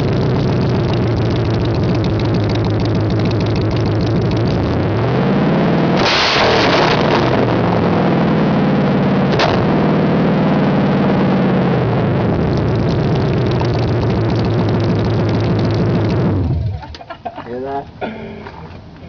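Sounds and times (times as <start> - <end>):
car engine revving: 0.0 - 16.8
sharp exhaust crack: 0.0 - 16.8.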